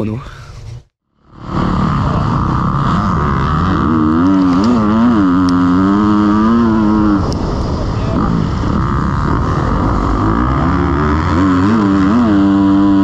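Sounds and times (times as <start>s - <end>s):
motocross bike engine revving: 1.2s - 13.0s.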